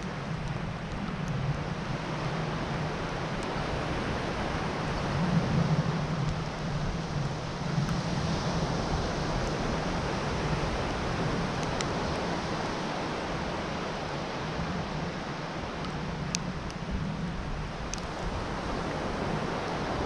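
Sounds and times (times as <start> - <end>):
sea surf: 0.0 - 20.0
wind: 0.0 - 20.0.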